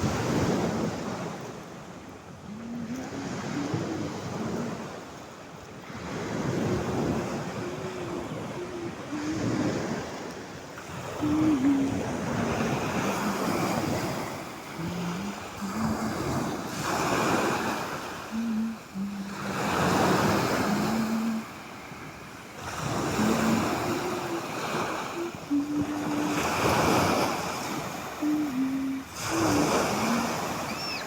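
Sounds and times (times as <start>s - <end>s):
sea waves breaking on shore: 0.0s - 31.0s.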